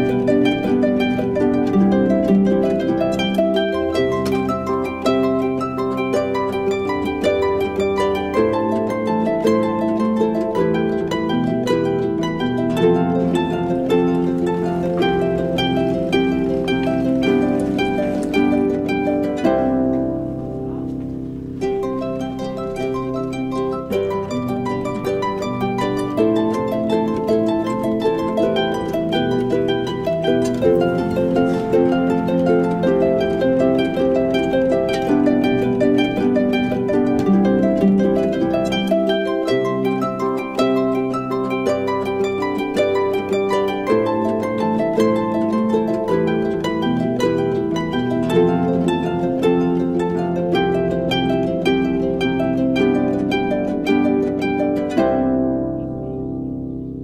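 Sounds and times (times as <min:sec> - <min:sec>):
plucked string music: 0:00.0 - 0:57.0.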